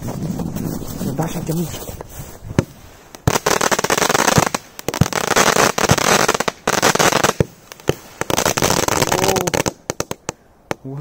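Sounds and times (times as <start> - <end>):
firework crackling: 0.0 - 10.8
fireworks popping and banging: 0.0 - 11.0.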